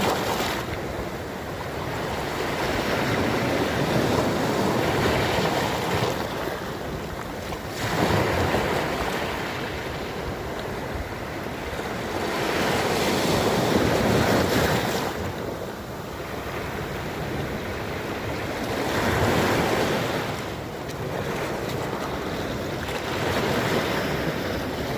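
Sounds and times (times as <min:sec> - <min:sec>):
sea waves washing onto shore: 0:00.0 - 0:24.9.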